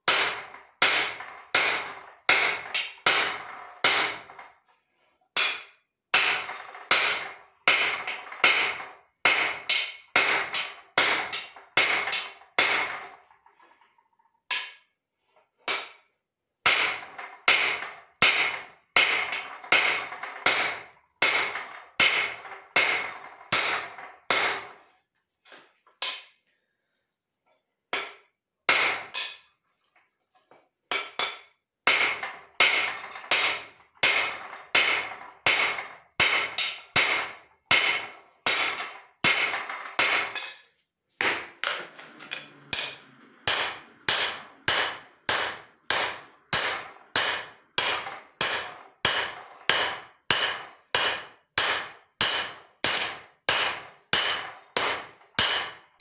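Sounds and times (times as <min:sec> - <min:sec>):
hammer striking steel on anvil: 0:00.0 - 0:04.3, 0:05.4 - 0:13.1, 0:16.7 - 0:24.7, 0:28.0 - 0:29.5, 0:30.9 - 0:56.0.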